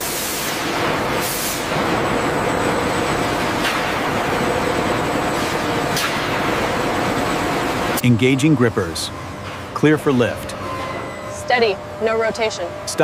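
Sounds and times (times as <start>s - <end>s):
heavy factory machinery running: 0.0s - 13.0s.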